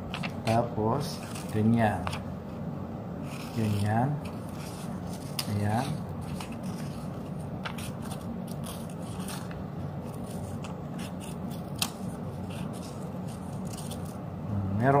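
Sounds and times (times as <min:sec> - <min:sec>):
scissors snipping paper: 0:00.1 - 0:02.2, 0:03.2 - 0:14.2.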